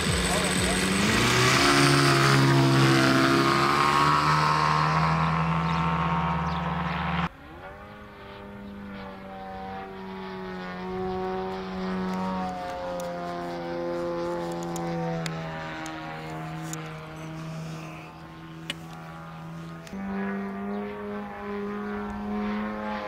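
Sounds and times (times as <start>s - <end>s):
model airplane engine and propeller: 0.0s - 23.0s.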